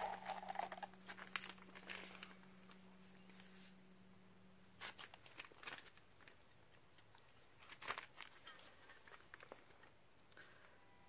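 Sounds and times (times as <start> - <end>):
faint low hum: 0.0 - 11.0
faint rustles and clicks: 0.8 - 4.0, 4.7 - 10.7.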